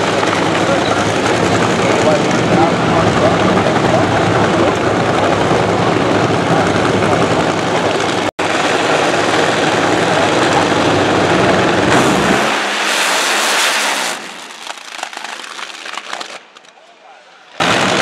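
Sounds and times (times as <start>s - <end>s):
drag racing engines roaring: 0.0s - 18.0s.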